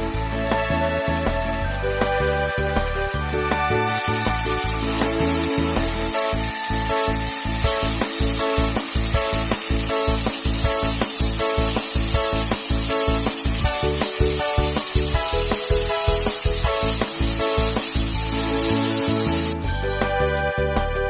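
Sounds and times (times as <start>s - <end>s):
background music with quick beat: 0.0s - 21.0s
food sizzling in a pan: 0.1s - 19.7s.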